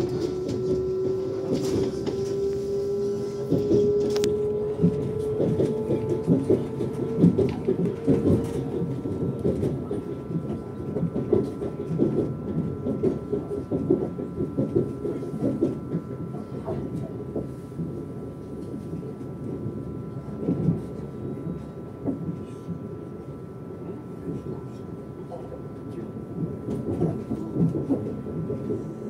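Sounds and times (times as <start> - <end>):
train wheels clattering on track: 0.0 - 29.0.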